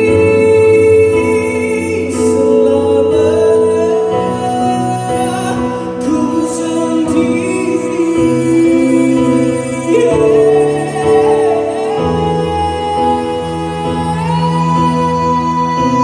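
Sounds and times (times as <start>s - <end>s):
electronic keyboard ballad: 0.0s - 16.0s
man singing: 0.0s - 16.0s.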